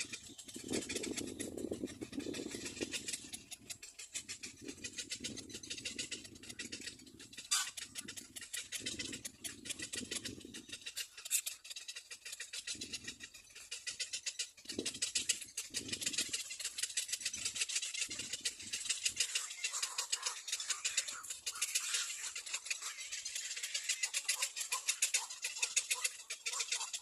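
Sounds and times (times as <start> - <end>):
cormorant chicks chittering: 0.0 - 27.0.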